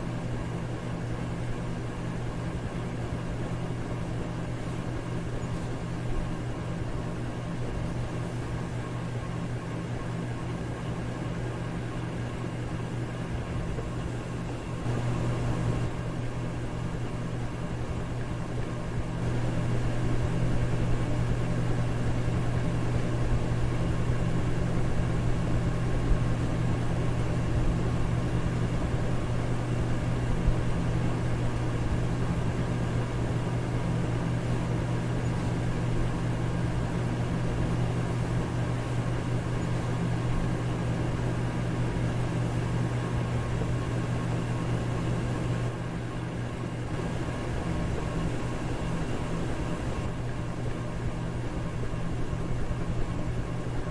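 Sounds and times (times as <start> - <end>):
fan air rushing: 0.0 - 53.9
low motor hum: 0.0 - 53.9.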